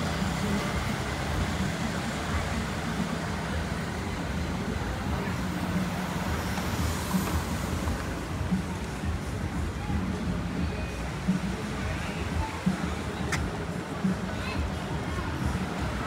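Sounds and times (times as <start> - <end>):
faint voices: 0.0 - 16.0
road traffic rumble: 0.0 - 16.0.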